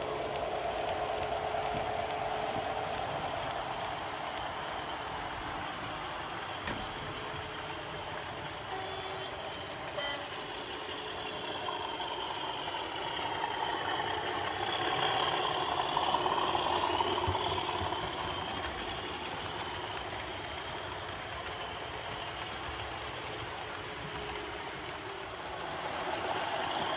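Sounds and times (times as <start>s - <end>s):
model train running: 0.0s - 26.9s.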